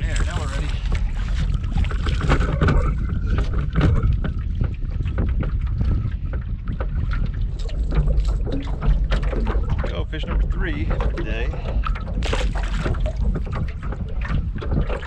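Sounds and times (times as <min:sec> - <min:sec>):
clicks and knocks in rowboat: 0:00.0 - 0:15.0
wind buffeting microphone: 0:00.0 - 0:15.0.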